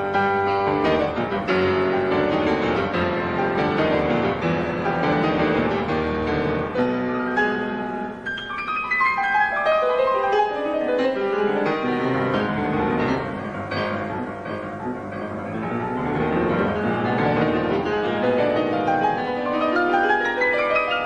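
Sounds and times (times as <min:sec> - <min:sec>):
solo grand piano: 0:00.0 - 0:21.0.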